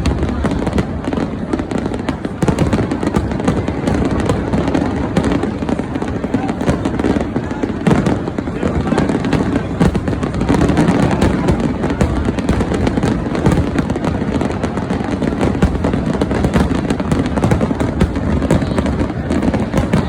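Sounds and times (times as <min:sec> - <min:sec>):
firework shell bursts and crackling: 0:00.0 - 0:20.0.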